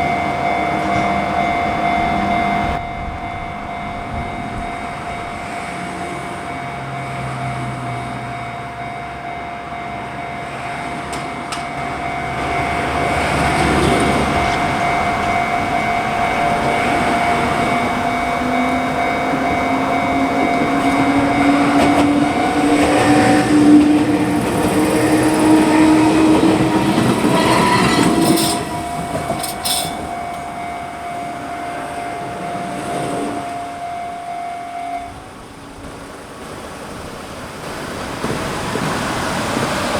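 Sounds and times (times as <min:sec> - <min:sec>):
crossing warning bell ringing: 0:00.0 - 0:39.9
train passing with rising whine: 0:00.0 - 0:39.9.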